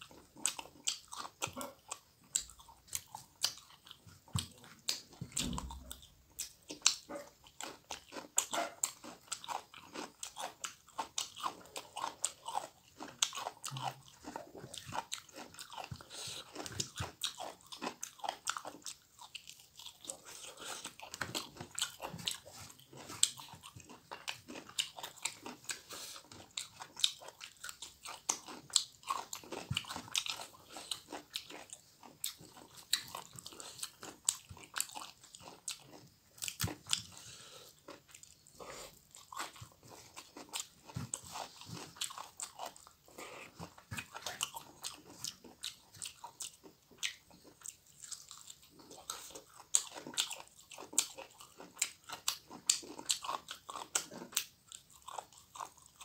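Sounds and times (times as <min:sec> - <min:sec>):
man chewing and crunching food: 0:00.0 - 0:56.0.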